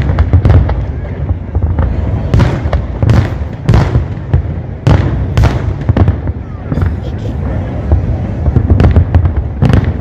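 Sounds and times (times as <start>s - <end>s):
fireworks bangs and crackles: 0.0s - 10.0s
fireworks rumbling: 0.0s - 10.0s.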